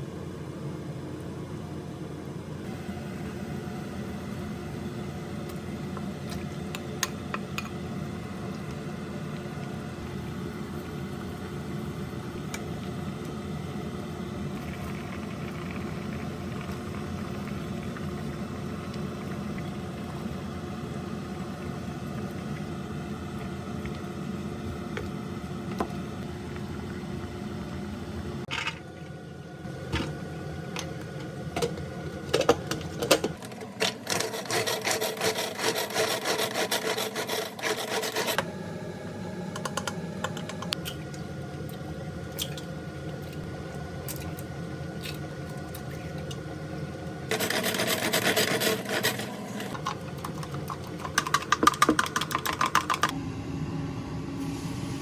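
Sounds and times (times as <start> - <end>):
kitchen appliance humming: 0.0 - 55.0.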